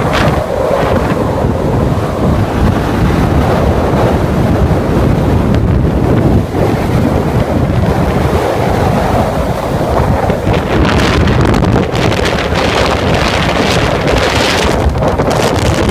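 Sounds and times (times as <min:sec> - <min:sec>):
rough sea surf: 0:00.0 - 0:15.9
wind buffeting microphone: 0:00.0 - 0:15.9.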